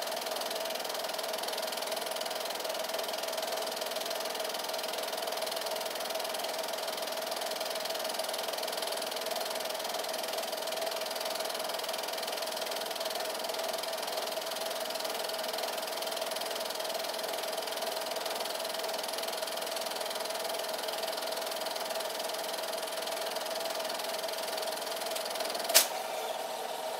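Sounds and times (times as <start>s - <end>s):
film projector whirring: 0.0s - 26.9s.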